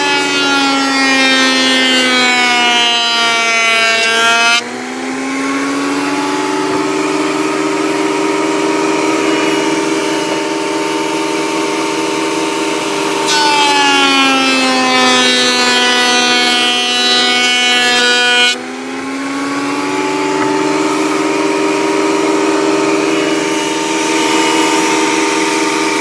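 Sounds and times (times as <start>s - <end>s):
shop vac running: 0.0s - 26.0s
wood planer motor whine: 0.0s - 26.0s.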